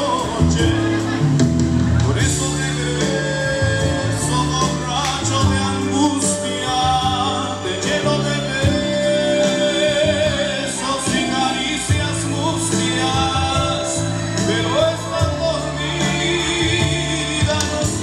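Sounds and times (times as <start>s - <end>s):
cajon drumming: 0.0s - 18.0s
keyboard: 0.0s - 18.0s
man singing ballad: 0.0s - 18.0s.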